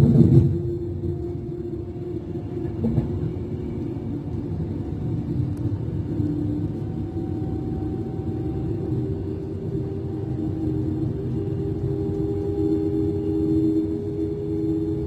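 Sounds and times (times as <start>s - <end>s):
low motor hum: 0.0s - 15.0s
train wheels rumbling on track: 0.0s - 15.0s.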